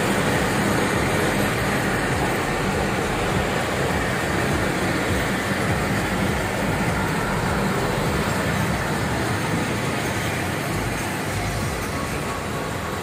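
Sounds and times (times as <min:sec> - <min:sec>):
passenger train rumble: 0:00.0 - 0:13.0.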